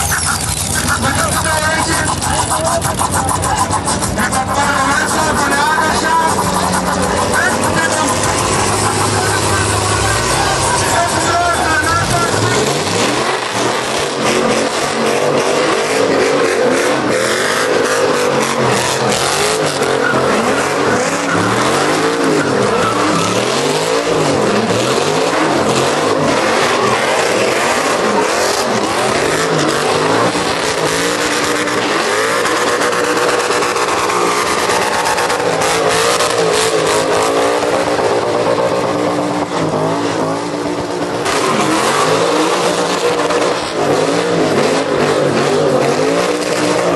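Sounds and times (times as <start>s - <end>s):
truck engines revving: 0.0s - 46.9s
tyres squealing on pavement: 0.0s - 46.9s.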